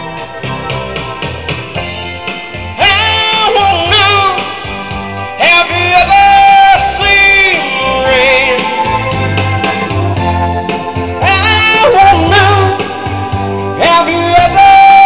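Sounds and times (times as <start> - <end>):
live band playing pop-rock: 0.0 - 15.0
steady bass line: 0.0 - 15.0
wavering lead melody: 0.0 - 15.0.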